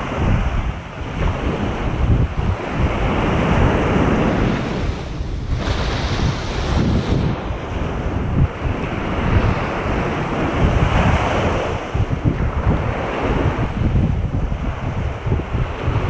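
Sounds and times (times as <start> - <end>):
surf waves breaking: 0.0 - 16.0
wind buffeting microphone: 0.0 - 16.0.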